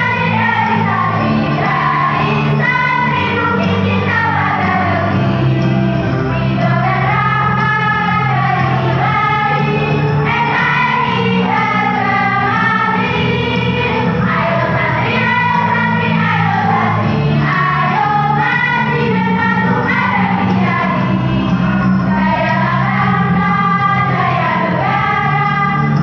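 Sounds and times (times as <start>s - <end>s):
children's choir singing: 0.0s - 26.0s
low held accompaniment notes: 0.0s - 26.0s.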